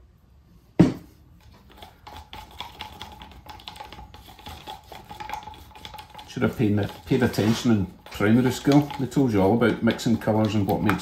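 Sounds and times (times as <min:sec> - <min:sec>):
stick stirring paint in plastic cup: 0:01.2 - 0:11.0.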